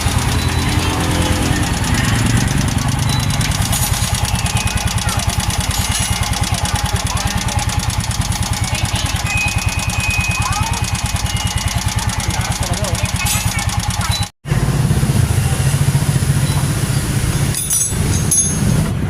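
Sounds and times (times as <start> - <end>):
motorcycle engine idling: 0.0 - 18.8.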